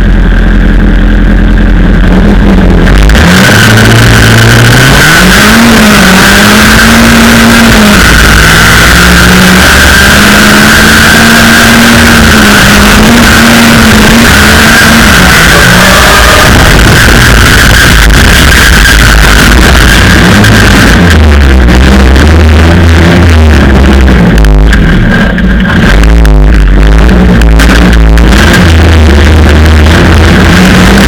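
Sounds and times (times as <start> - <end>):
car engine revving at high revs: 0.0 - 31.0.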